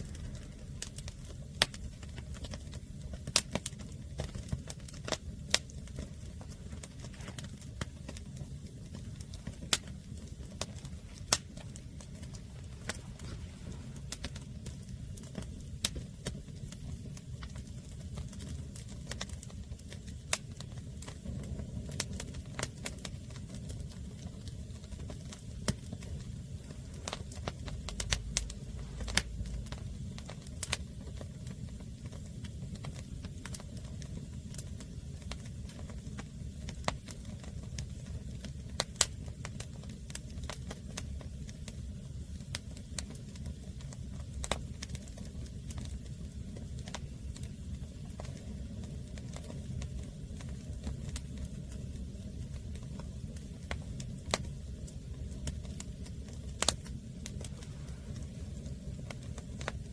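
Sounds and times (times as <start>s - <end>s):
firewood crackling and popping: 0.0s - 59.9s
low fire rumble: 0.0s - 59.9s.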